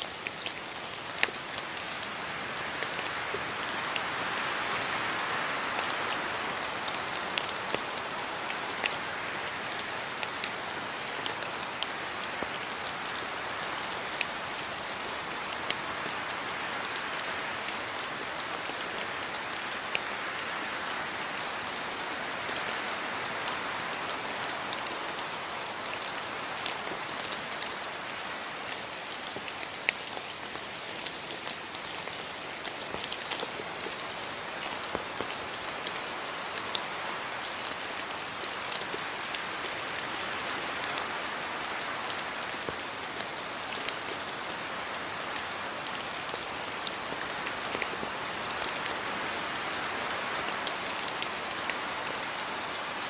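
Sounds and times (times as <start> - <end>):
raindrops pattering: 0.0 - 53.0
steady rain: 0.0 - 53.0.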